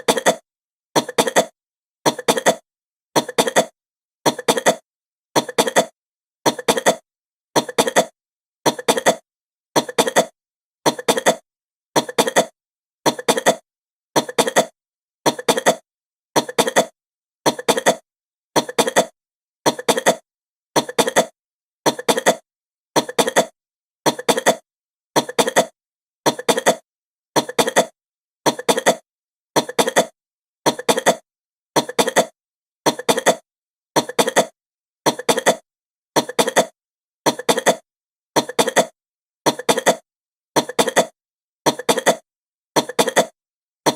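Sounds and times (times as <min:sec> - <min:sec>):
woman coughing: 0:01.0 - 0:02.6, 0:03.2 - 0:04.8, 0:05.4 - 0:07.0, 0:07.6 - 0:09.2, 0:09.8 - 0:11.4, 0:12.0 - 0:22.4, 0:23.0 - 0:26.8, 0:27.4 - 0:33.4, 0:34.0 - 0:35.6, 0:36.2 - 0:43.9.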